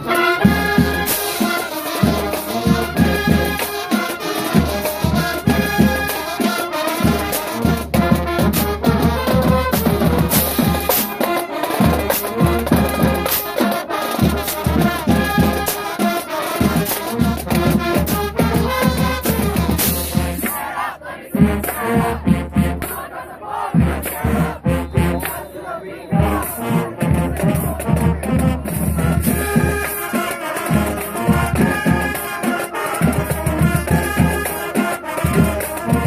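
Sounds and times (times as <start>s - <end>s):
brass melody: 0.0s - 36.0s
steady drum beat: 0.0s - 36.0s.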